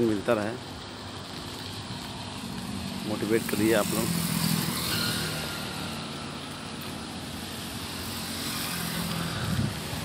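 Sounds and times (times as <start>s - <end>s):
road noise: 0.0s - 10.0s
vehicle engine hum: 0.0s - 10.0s
wind: 0.0s - 10.0s.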